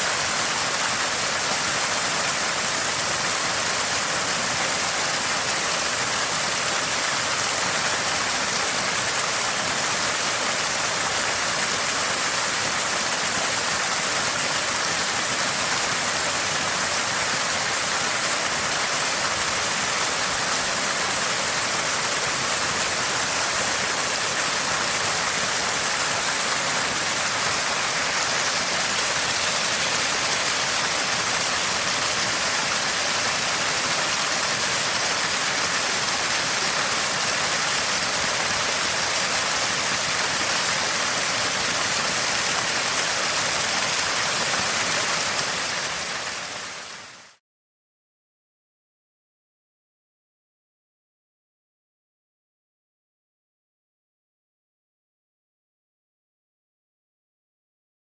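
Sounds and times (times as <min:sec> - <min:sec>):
spring water gushing and gurgling: 0:00.0 - 0:47.2.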